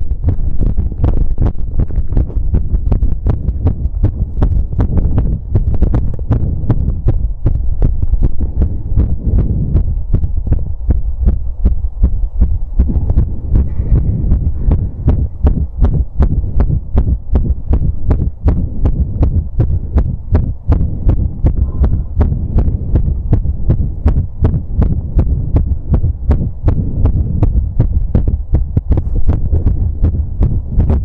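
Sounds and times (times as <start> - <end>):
fast heartbeat through stethoscope: 0.0 - 31.0
low rumble: 0.0 - 31.0.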